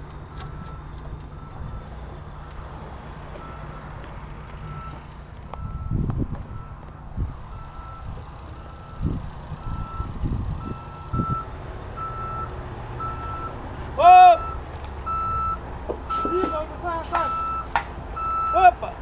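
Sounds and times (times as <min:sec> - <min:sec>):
reverse alarm beeping: 0:00.0 - 0:13.6, 0:14.2 - 0:19.0
low engine rumble: 0:00.0 - 0:19.0.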